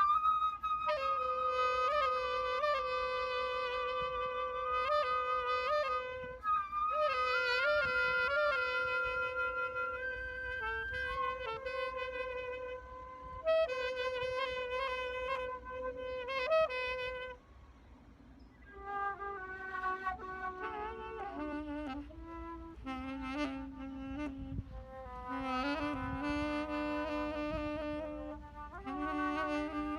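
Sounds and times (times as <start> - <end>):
wind instruments playing slow tune: 0.0 - 29.9.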